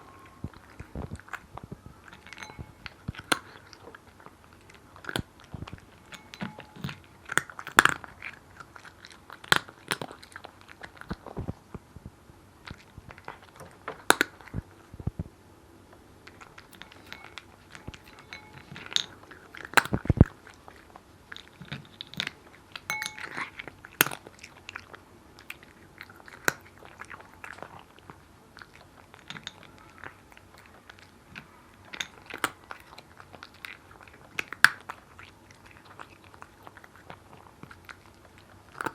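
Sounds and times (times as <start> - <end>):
cat crunching dry food: 0.3 - 11.7, 12.7 - 15.1, 16.2 - 38.9.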